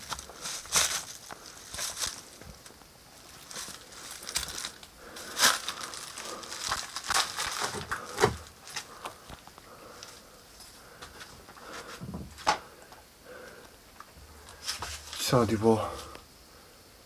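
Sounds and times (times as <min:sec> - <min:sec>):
footsteps on stones and leaves: 0:00.0 - 0:12.5, 0:14.4 - 0:16.1.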